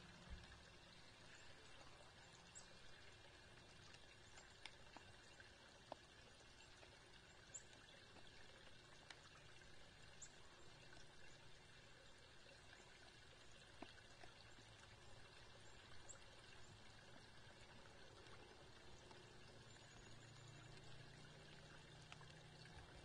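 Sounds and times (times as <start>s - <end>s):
faint outdoor hiss: 0.0s - 23.0s.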